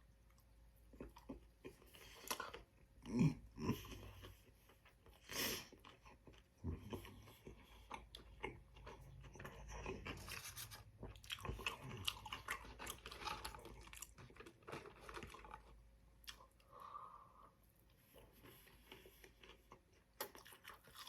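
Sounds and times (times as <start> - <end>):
chewing and crunching fried food: 0.0 - 21.0.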